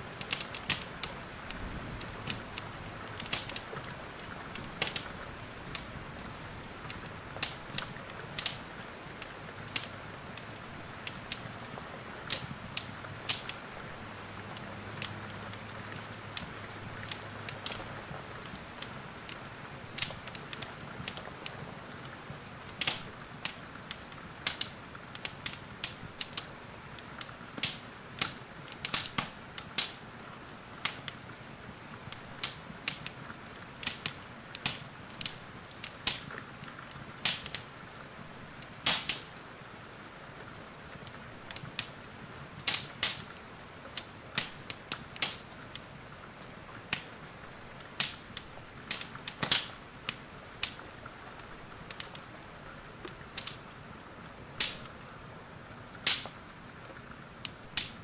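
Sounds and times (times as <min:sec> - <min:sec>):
soft hiss of rain: 0:00.0 - 0:58.0
wood fire crackling: 0:00.0 - 0:58.0.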